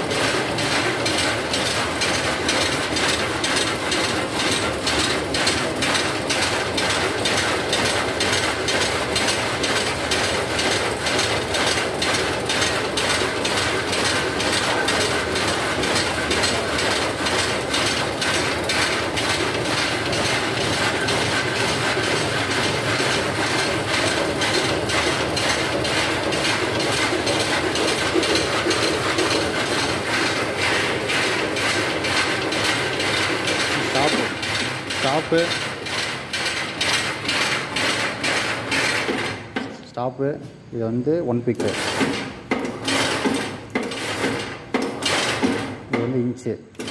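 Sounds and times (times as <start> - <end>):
power loom clattering: 0.0 - 39.9, 41.5 - 46.9.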